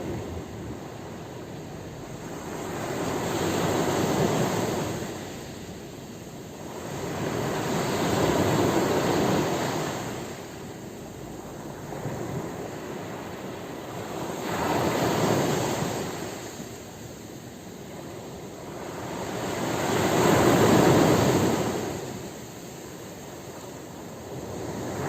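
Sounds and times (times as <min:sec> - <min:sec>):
sea waves breaking ashore: 0:00.0 - 0:25.0.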